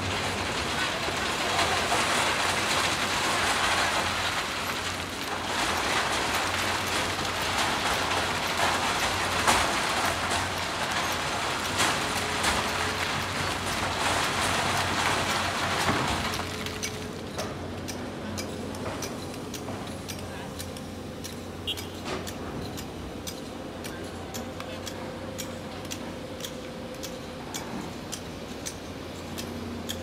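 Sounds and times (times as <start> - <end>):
excavators working: 0.0 - 30.0.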